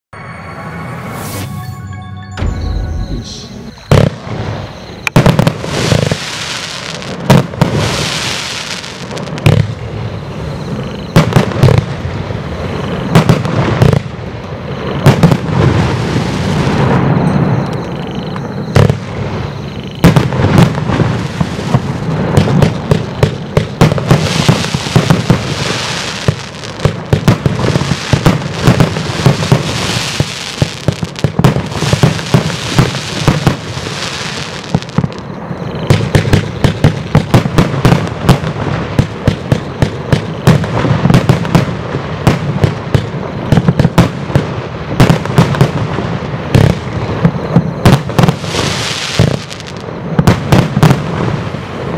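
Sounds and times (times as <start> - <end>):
firework hissing crackle: 3.9 - 17.2, 18.4 - 51.9.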